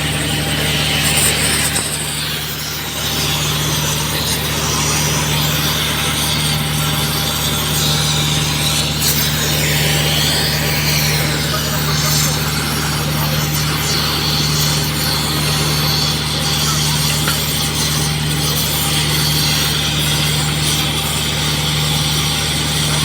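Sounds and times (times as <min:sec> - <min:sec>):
gas torch hissing: 0:00.0 - 0:19.0.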